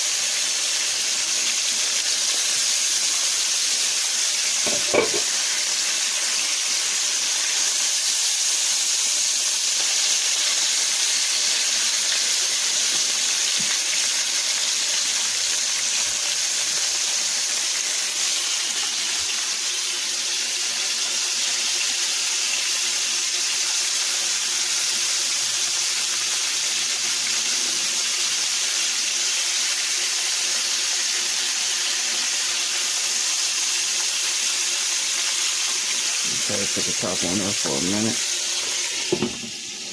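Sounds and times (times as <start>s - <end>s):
chicken liver frying in oil: 0.0s - 39.9s.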